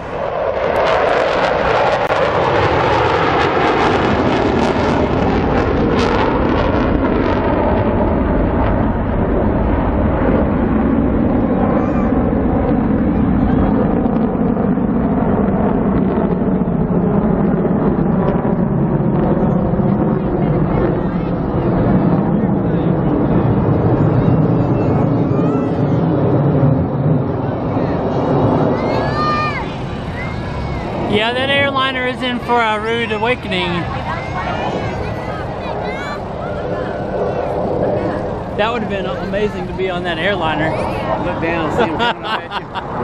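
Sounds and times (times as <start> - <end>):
fighter jets roaring overhead: 0.0 - 43.0.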